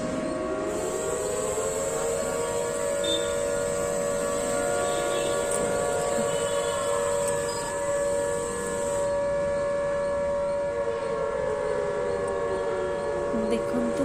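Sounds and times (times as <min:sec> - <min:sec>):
alert siren wailing: 0:00.0 - 0:14.0.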